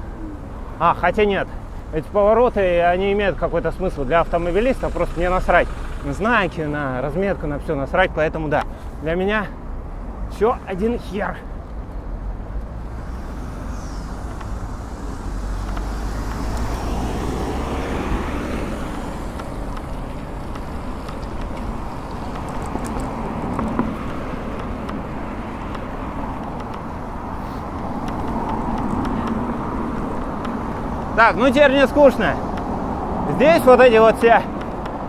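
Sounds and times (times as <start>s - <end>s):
city road traffic: 0.0s - 35.0s
wind and road rumble: 0.0s - 35.0s.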